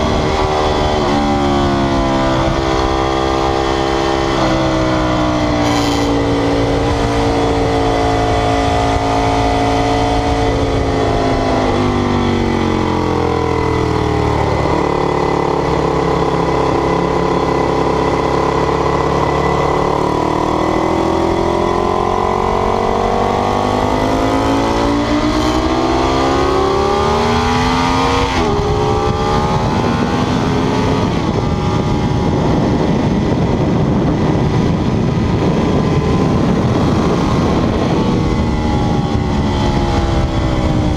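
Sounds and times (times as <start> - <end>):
motorcycle engine revving: 0.0 - 40.9
steady rushing noise: 0.0 - 40.9.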